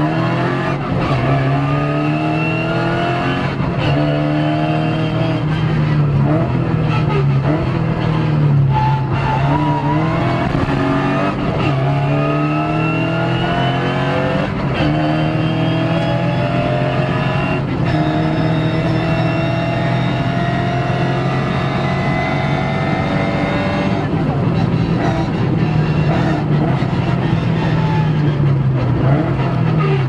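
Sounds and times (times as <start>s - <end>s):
rally car engine revving: 0.0s - 30.0s
gear upshifts: 3.4s - 30.0s.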